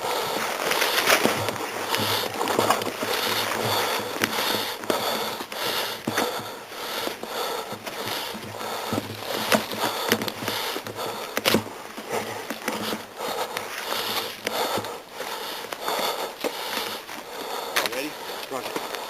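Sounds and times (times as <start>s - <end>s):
person breathing hard and sniffing: 0.0s - 19.0s.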